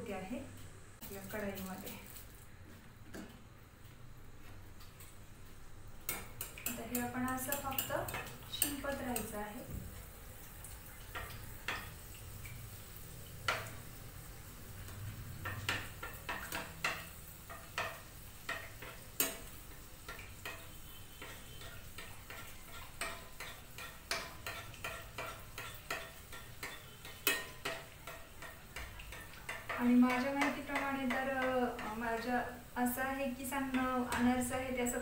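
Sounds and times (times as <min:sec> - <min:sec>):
faint sizzle of frying oil: 0:00.0 - 0:35.0.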